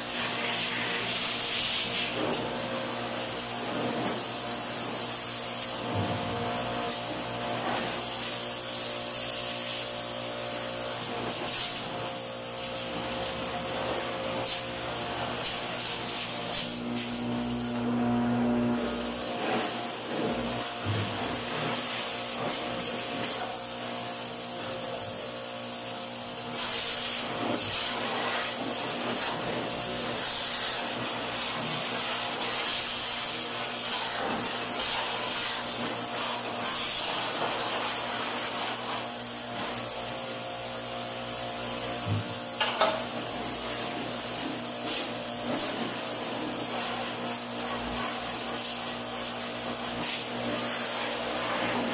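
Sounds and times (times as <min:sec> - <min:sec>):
pressure washer jet hissing: 0:00.0 - 0:17.8, 0:18.8 - 0:51.9.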